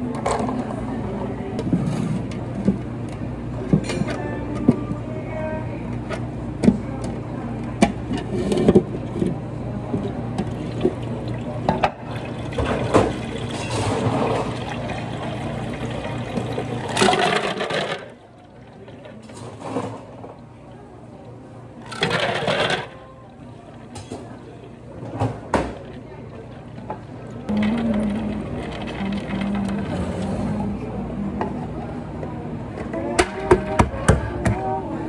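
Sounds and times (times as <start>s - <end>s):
steady machine hum: 0.8s - 35.0s.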